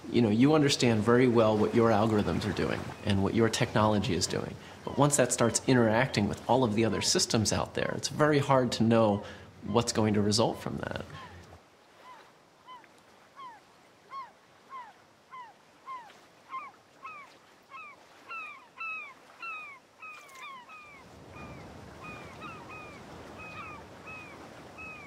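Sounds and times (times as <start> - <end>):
bird calling: 0.8 - 7.7, 9.6 - 25.0.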